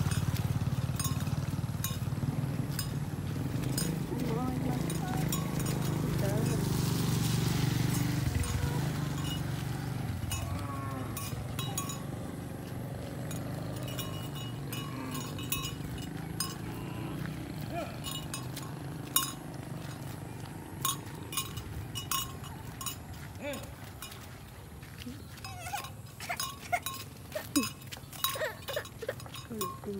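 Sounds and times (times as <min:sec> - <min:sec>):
cattle bells clinking: 0:00.0 - 0:29.9
motorcycle engine passing: 0:00.0 - 0:29.9.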